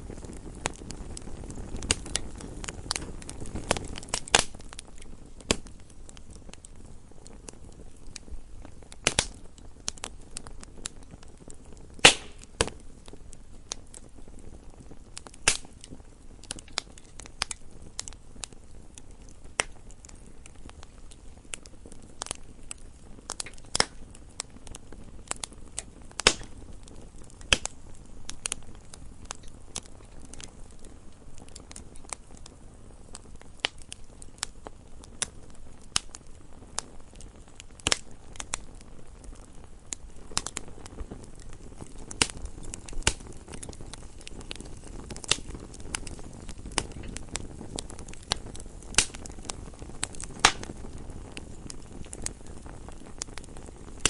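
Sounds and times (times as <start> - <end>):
low steady hiss: 0.0 - 54.0
wood fire crackling and popping: 0.0 - 54.0.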